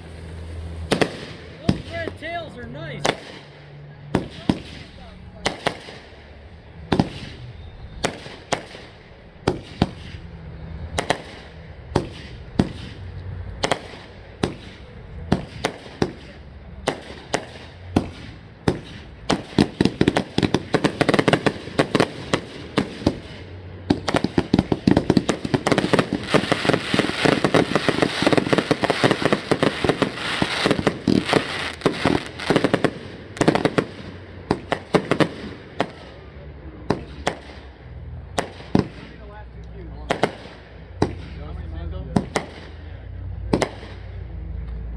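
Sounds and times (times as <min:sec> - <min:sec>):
fireworks crackling and bangs: 0:00.0 - 0:44.9.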